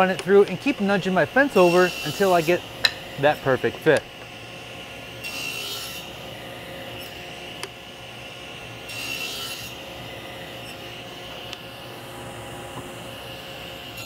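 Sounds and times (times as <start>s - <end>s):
table saw cutting wood: 0.0s - 14.0s.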